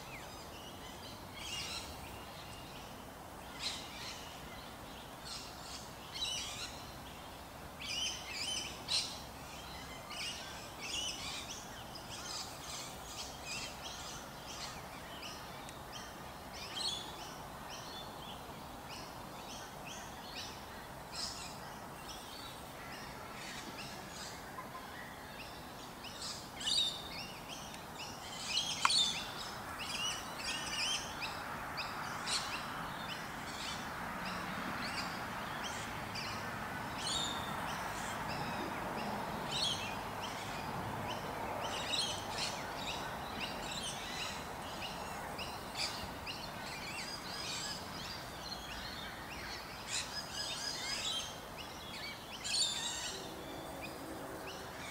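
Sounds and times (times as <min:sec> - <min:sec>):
steady background noise: 0:00.0 - 0:54.9.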